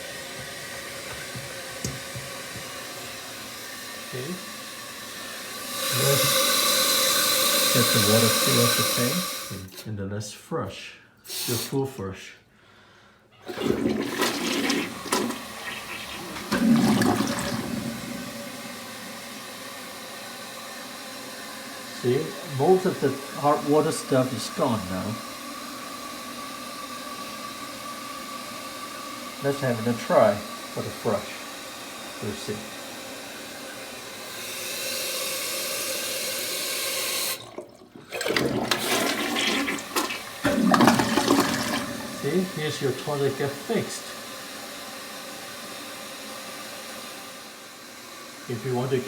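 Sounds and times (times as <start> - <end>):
running water hiss: 0.0 - 9.9, 13.5 - 49.0
toilet flushing: 0.0 - 9.9, 13.4 - 49.0.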